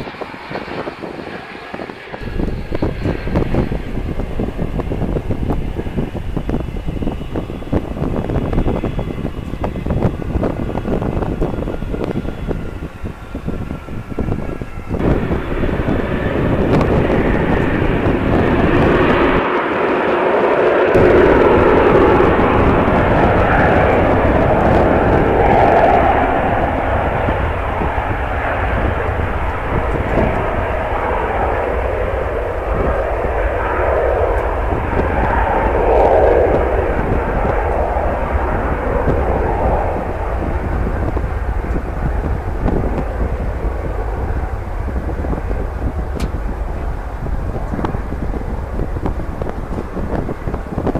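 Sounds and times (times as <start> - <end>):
jet engines roaring: 0.0 - 50.9
wind rumbling on microphone: 0.0 - 50.9.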